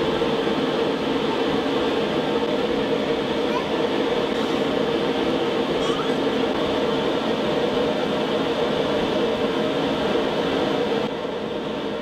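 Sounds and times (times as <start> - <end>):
machine drone: 0.0 - 12.0.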